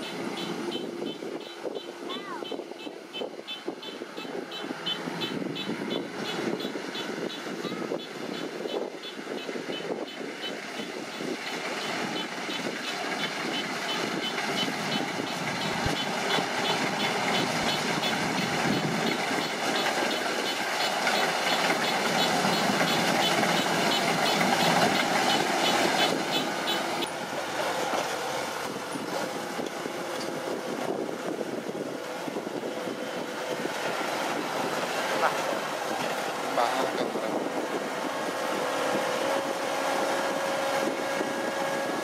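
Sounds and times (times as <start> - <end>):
combine harvester engine running: 0.0 - 42.0.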